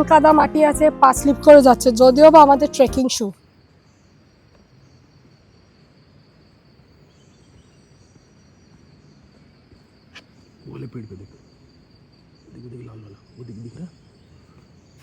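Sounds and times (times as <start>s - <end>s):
insects droning: 1.0s - 15.0s.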